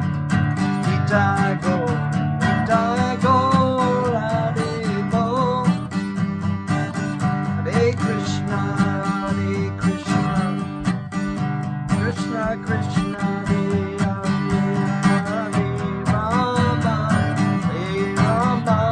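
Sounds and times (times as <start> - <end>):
strummed acoustic guitar: 0.0 - 18.9.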